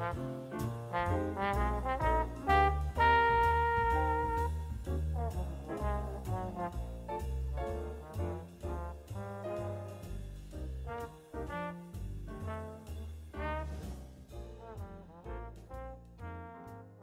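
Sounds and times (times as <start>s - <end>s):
stepping bass line: 0.0s - 16.4s
jazzy tune with brass lead: 0.0s - 17.0s.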